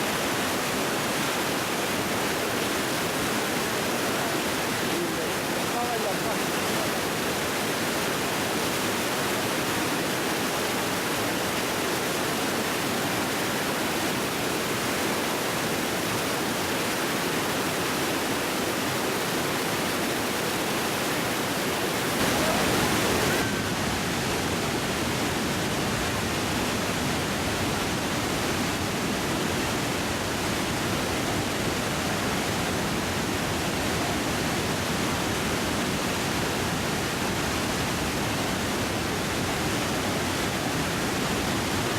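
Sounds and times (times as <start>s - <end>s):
heavy waterfall rushing: 0.0s - 41.9s.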